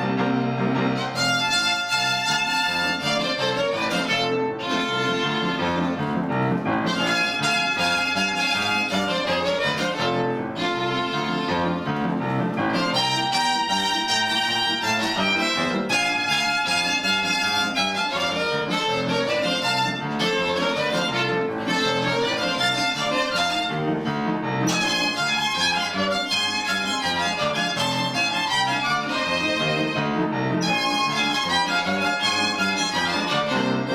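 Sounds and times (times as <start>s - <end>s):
piano accompaniment: 0.0s - 33.9s
violin playing: 0.0s - 33.9s.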